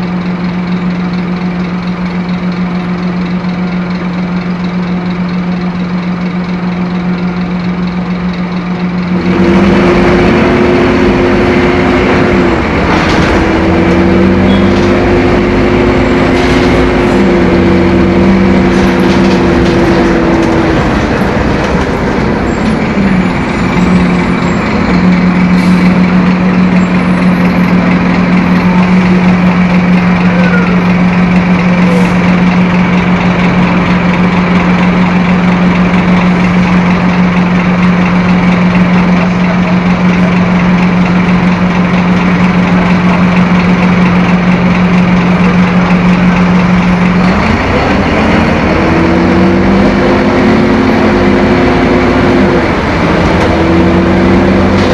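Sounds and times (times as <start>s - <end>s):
bus engine droning: 0.0s - 54.9s.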